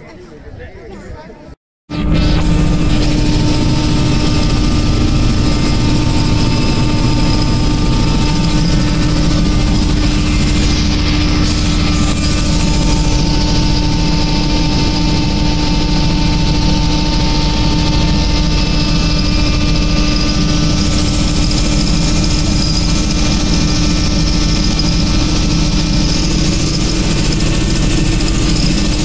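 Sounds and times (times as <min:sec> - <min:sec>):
helicopter engine and rotor din: 0:01.9 - 0:29.0.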